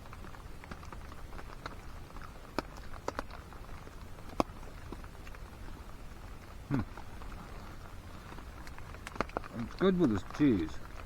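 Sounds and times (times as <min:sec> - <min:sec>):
low rumble of rain: 0:00.0 - 0:11.0
raindrops tapping: 0:00.0 - 0:11.0.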